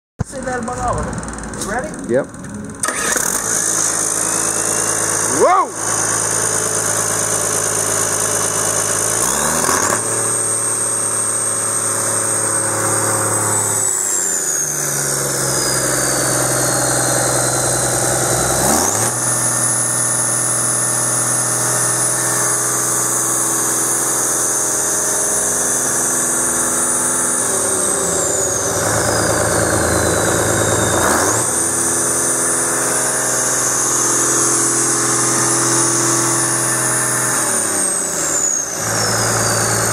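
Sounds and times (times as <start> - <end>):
diesel engine revving: 0.2 - 39.9.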